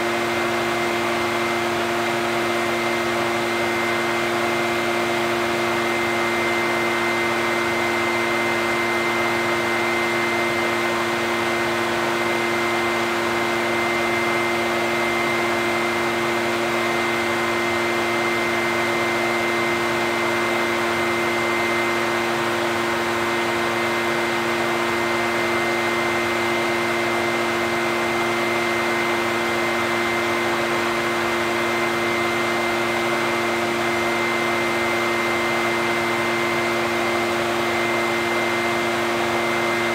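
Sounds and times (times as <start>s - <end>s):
leaf blower droning: 0.0s - 39.9s.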